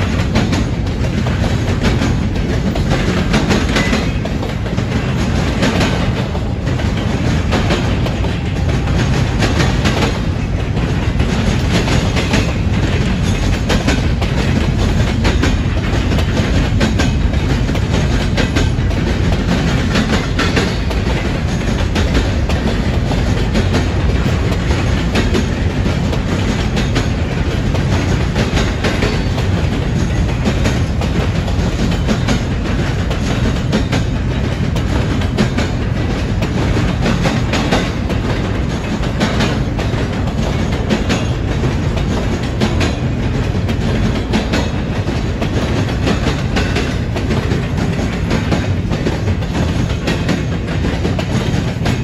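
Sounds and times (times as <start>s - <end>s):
freight train wheels rumbling: 0.0s - 52.0s
wheels clicking on rail joints: 0.0s - 52.0s.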